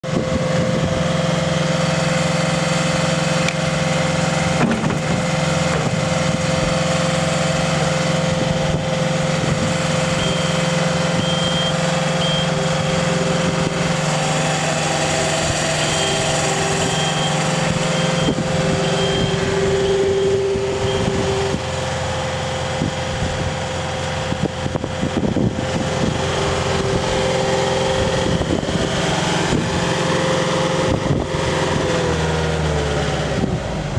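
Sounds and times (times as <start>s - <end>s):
diesel engine running: 0.0s - 33.9s
high whine: 0.1s - 32.1s.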